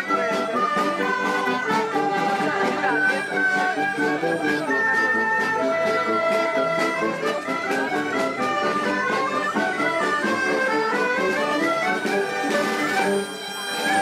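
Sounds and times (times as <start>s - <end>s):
accordion folk tune with band: 0.0s - 14.0s.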